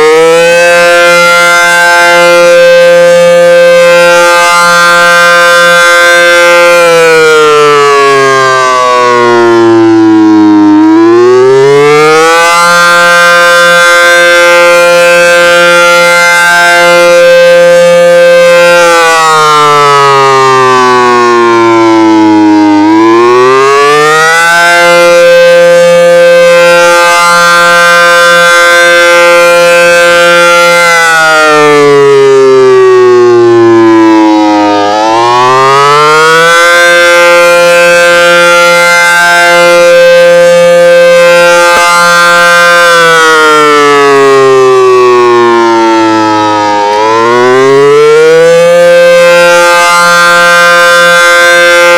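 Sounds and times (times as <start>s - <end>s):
warning siren rising and falling: 0.0s - 51.9s.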